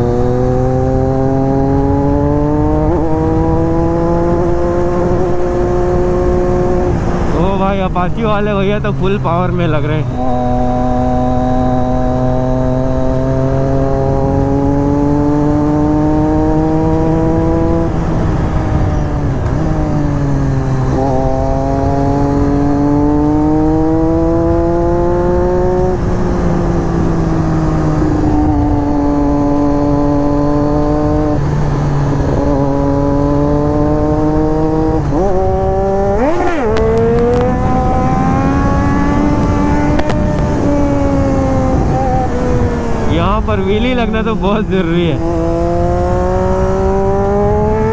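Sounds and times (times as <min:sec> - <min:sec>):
motorcycle engine accelerating: 0:00.0 - 0:47.9
wind and road noise: 0:00.0 - 0:47.9.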